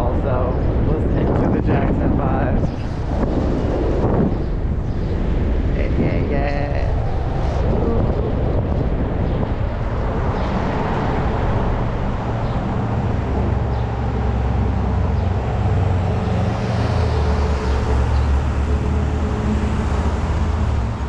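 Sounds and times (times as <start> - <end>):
road traffic engine rumble: 2.0 - 21.0.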